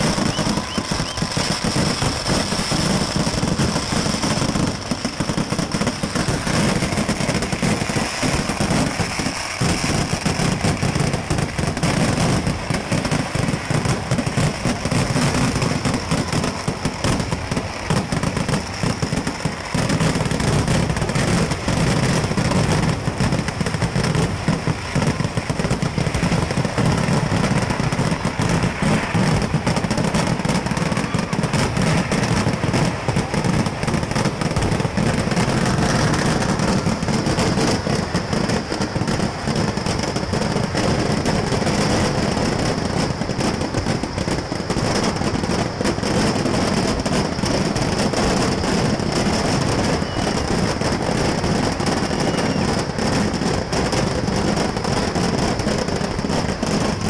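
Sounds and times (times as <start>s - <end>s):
firecracker bangs and crackling: 0.0s - 57.0s.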